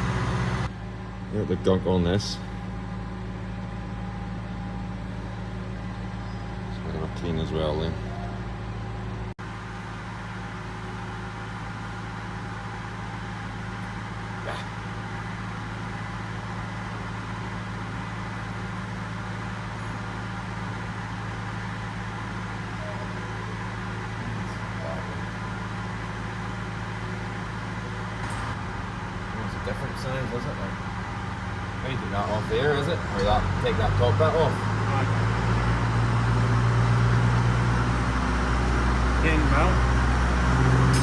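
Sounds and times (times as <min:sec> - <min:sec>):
engine drone: 0:00.0 - 0:41.0.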